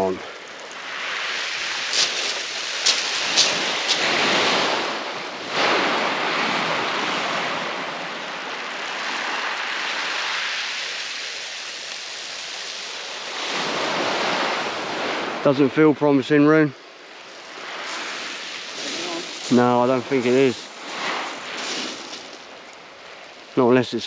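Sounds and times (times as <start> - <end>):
waves washing over shingle: 0.0 - 24.0.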